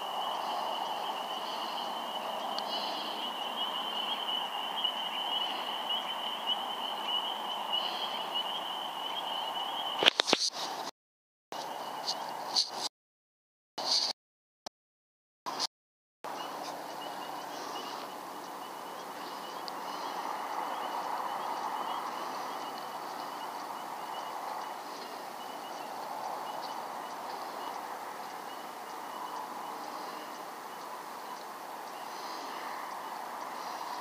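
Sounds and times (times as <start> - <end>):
night background chorus: 0.0 - 10.1, 16.3 - 34.0.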